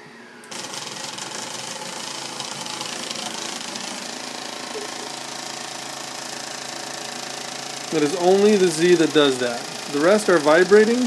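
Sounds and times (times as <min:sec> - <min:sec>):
stepper motor mechanical buzz: 0:00.2 - 0:11.0.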